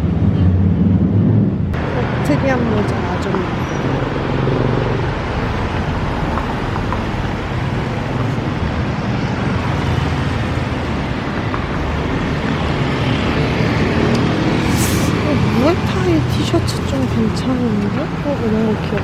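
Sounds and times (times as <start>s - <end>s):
passing cars and motorbikes: 0.0s - 19.0s.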